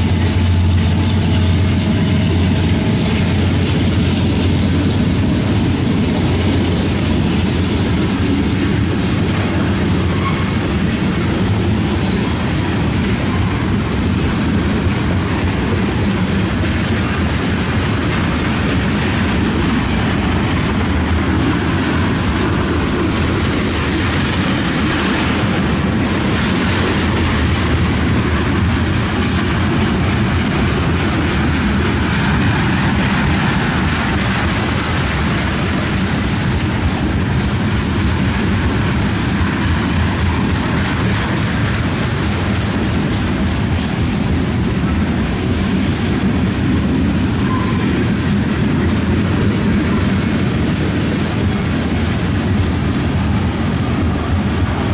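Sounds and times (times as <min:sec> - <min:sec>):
train wheels rumbling on track: 0:00.0 - 0:54.9.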